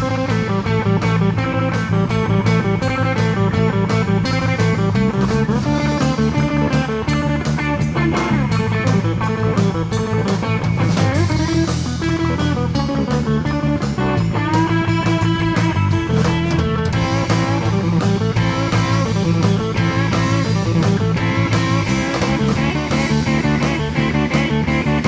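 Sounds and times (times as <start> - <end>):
electric bass: 0.0 - 25.0
electric guitar lead: 0.0 - 25.0
steady drum beat: 0.0 - 25.0.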